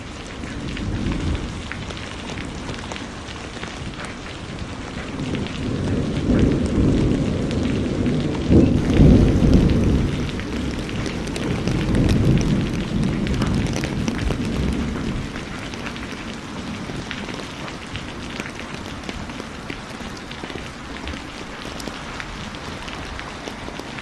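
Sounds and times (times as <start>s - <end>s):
raindrop ticks: 0.0s - 24.0s
steady rain falling: 0.0s - 24.0s.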